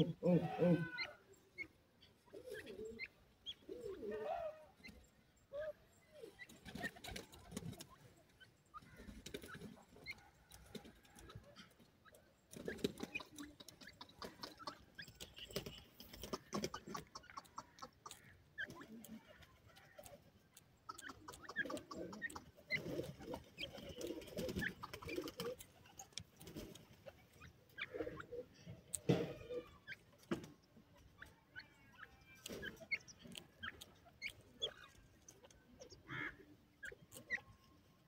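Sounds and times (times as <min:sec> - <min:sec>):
birds clucking softly: 0:00.0 - 0:38.0
pecking and scratching in dirt: 0:00.0 - 0:38.0.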